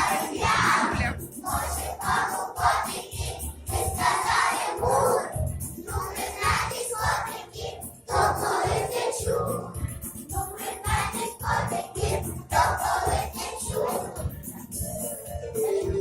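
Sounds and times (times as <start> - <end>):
backing track with steady beat: 0.0 - 16.0
children singing: 0.0 - 16.0.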